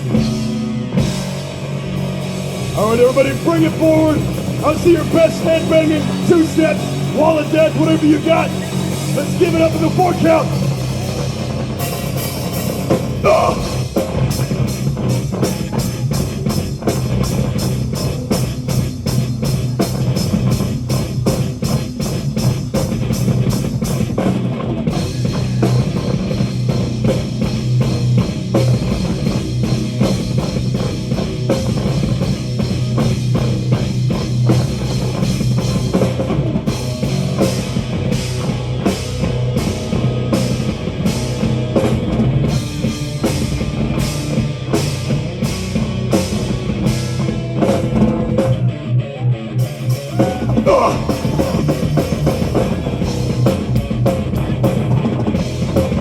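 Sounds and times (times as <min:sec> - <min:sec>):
pounding drum kit: 0:00.0 - 0:49.0, 0:49.6 - 0:56.0
metal band playing: 0:00.0 - 0:56.0.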